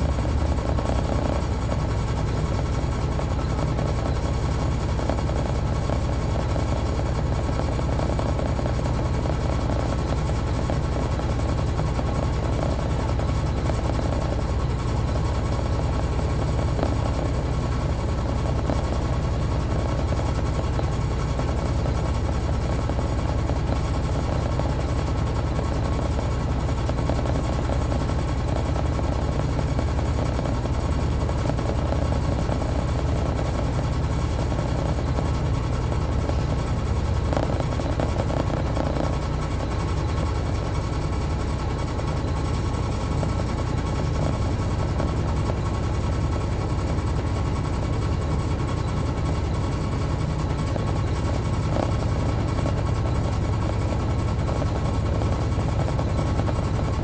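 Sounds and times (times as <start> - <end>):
diesel engine drone: 0.0 - 57.0.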